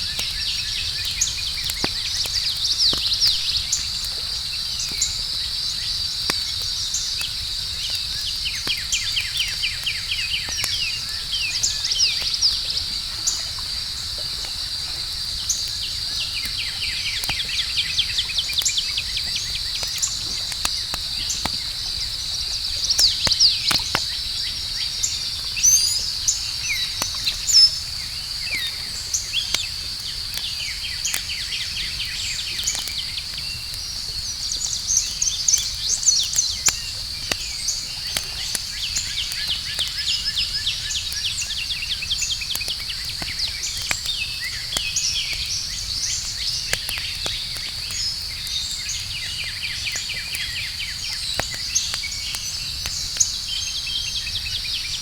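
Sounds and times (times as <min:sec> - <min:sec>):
campfire crackling: 0:00.0 - 0:55.0
crickets trilling: 0:00.0 - 0:55.0.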